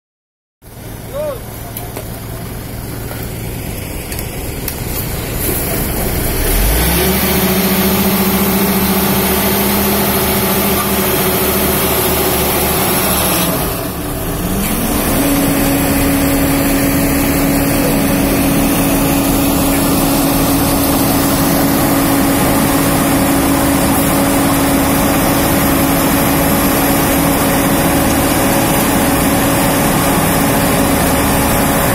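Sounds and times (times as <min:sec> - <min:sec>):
heavy diesel engines droning: 0:00.6 - 0:31.9.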